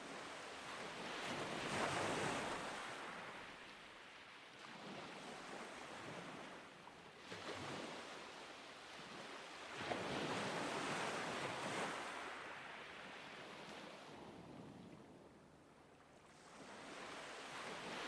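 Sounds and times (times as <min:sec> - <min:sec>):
waves washing in and out: 0:00.0 - 0:18.0.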